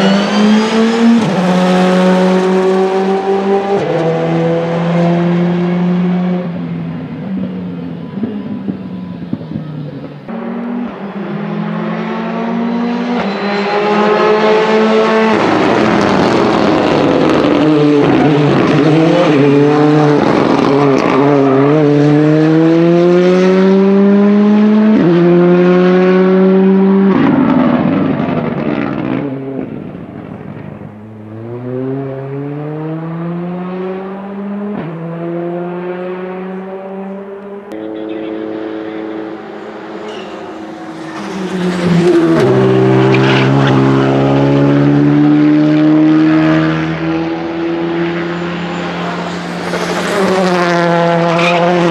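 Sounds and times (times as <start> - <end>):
rally car engine accelerating: 0.0 - 51.9.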